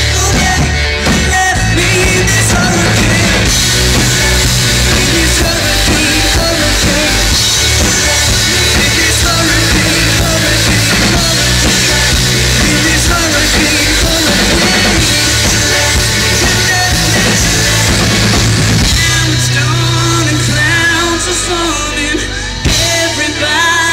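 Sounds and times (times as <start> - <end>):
man singing: 0.0 - 23.9
rock band playing: 0.0 - 23.9.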